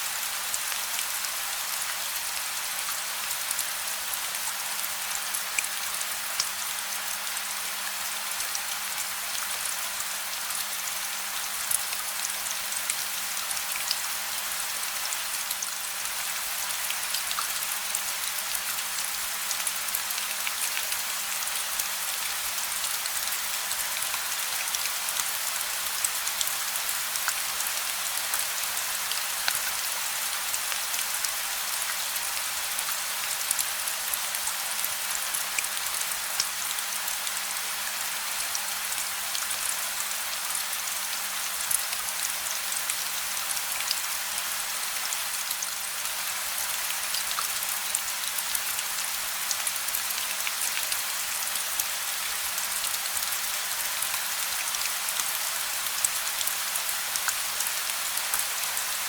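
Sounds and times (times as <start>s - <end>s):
steady gentle rain: 0.0s - 59.0s.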